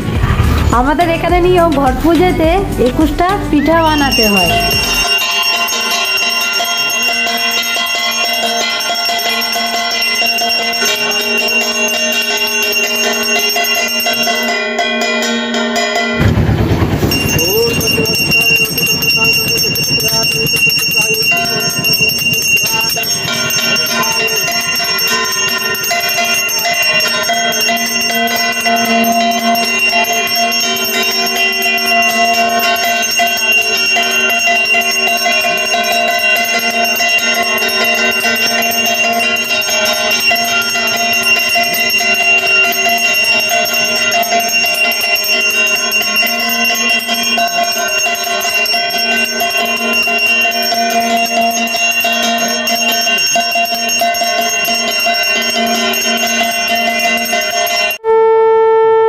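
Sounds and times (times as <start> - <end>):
brass hand bell ringing: 3.8 - 58.1.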